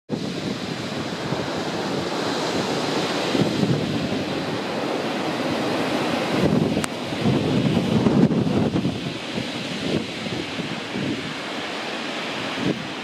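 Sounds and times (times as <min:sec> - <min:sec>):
blizzard wind blowing: 0:00.1 - 0:13.0
wind buffeting microphone: 0:00.1 - 0:13.0.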